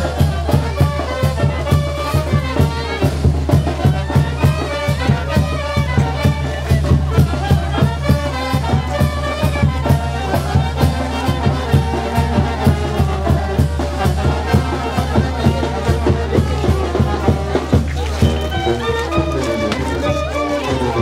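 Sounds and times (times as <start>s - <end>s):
brass band melody: 0.0s - 21.0s
quick drum beat: 0.0s - 21.0s.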